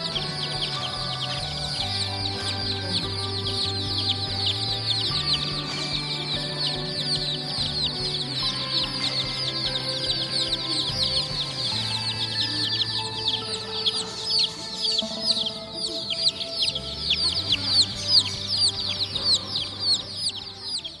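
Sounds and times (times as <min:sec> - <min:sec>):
background music with held notes: 0:00.0 - 0:21.0
chicks peeping: 0:00.0 - 0:21.0.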